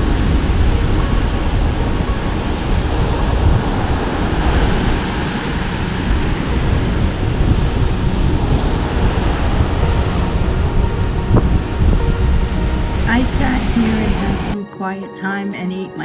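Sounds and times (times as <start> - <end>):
ocean surf: 0.0 - 14.6
wind buffeting microphone: 0.0 - 14.6.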